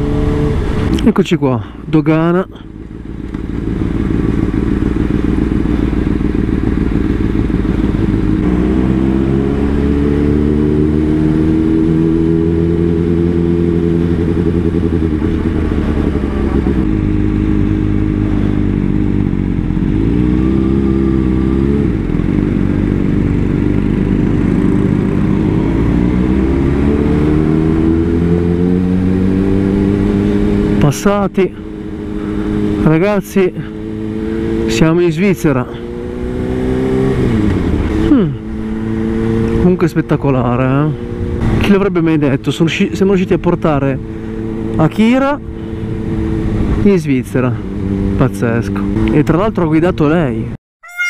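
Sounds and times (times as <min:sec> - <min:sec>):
motorcycle engine revving: 0:00.0 - 0:01.1, 0:02.5 - 0:49.4.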